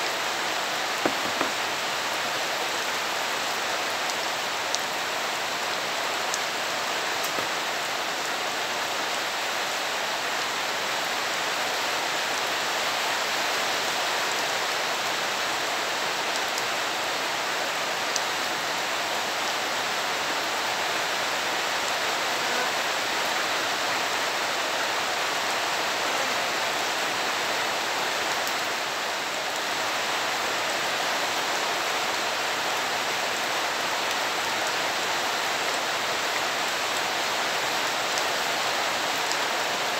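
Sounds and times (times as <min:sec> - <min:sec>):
rain falling on wet ground: 0:00.0 - 0:39.9.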